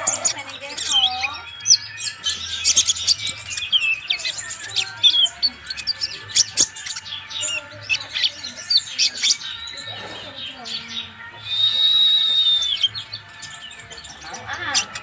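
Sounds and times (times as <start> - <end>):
bird chirping and twittering: 0.0 - 15.0.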